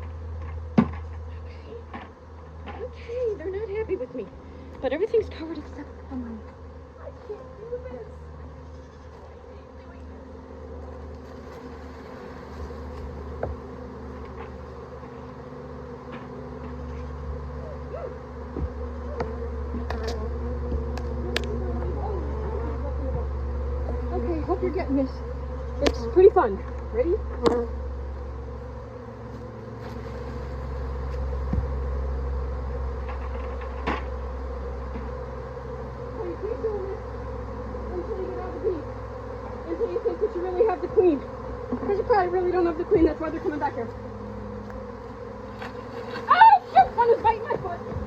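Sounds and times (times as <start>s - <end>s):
bee swarm buzzing: 0.0s - 48.0s.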